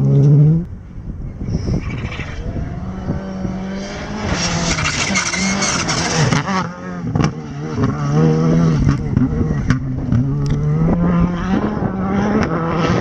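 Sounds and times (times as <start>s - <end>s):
rally car engine revving: 0.0s - 0.7s, 1.6s - 13.0s
gravel and tyre noise: 0.0s - 13.0s.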